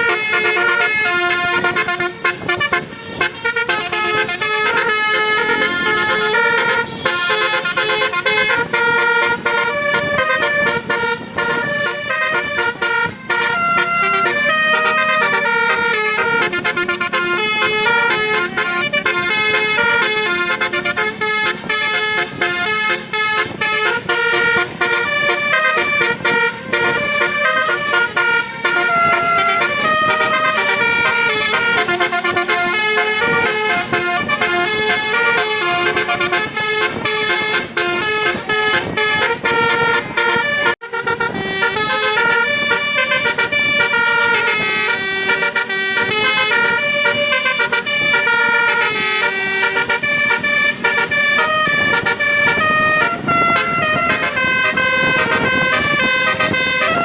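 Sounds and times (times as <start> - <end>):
musical bus horn playing a tune: 0.0 - 57.0.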